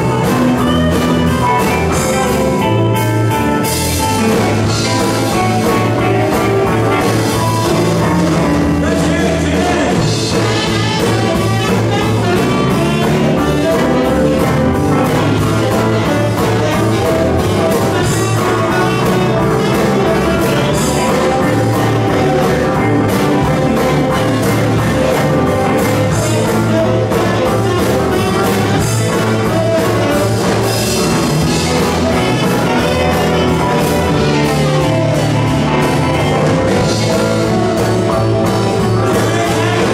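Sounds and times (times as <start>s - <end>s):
bass guitar: 0.0s - 39.9s
drum kit beat: 0.0s - 39.9s
electric guitars: 0.0s - 39.9s
keyboards: 0.0s - 39.9s
saxophone: 0.0s - 39.9s.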